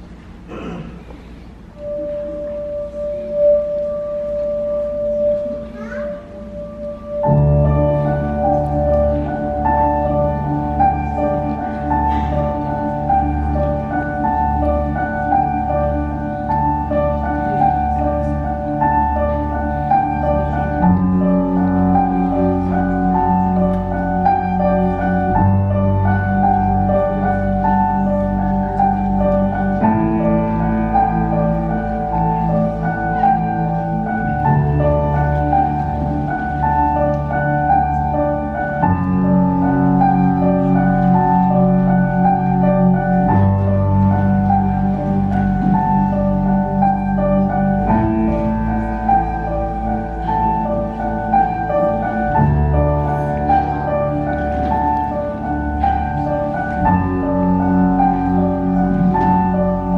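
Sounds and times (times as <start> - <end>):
instrumental music melody over chords: 1.7 - 59.9.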